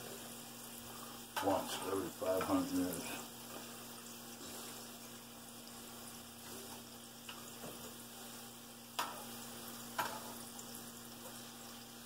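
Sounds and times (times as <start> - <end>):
food sizzling in skillet: 0.0 - 12.0.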